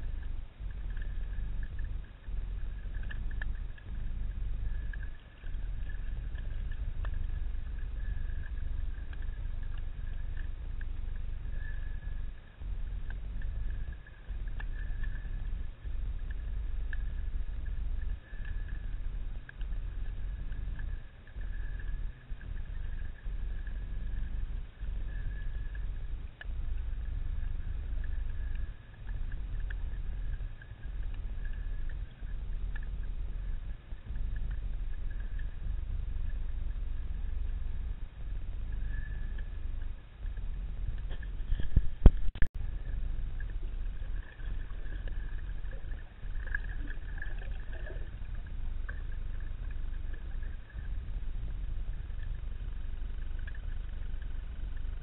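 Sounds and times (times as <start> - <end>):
faint clicks: 0.0 - 55.0
thin high whine: 0.0 - 55.0
underwater water movement rumble: 0.0 - 55.0.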